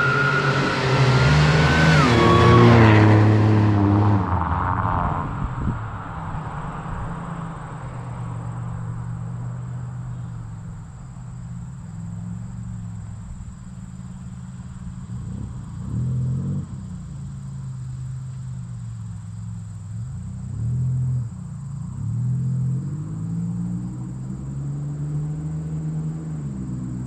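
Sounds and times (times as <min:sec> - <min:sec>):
car engine low rumble: 0:00.0 - 0:27.0.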